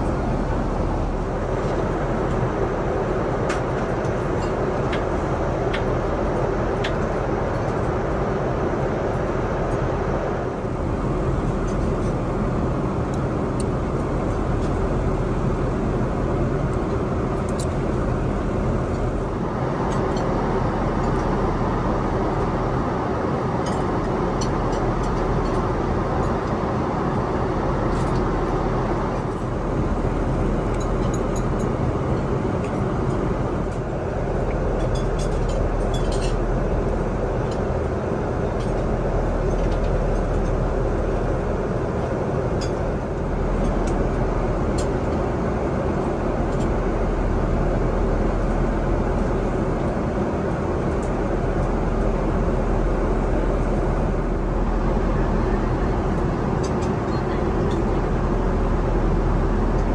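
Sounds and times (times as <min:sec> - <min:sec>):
airplane cabin airflow and engines: 0:00.0 - 0:59.9.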